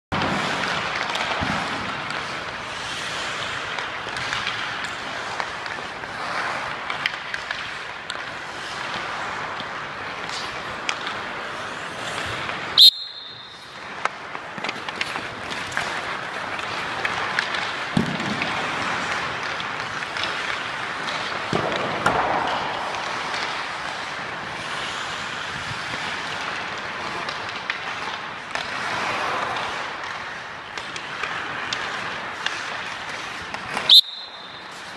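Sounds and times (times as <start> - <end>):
skates scraping ice: 0.1 - 34.9
sticks hitting pucks: 0.1 - 34.9.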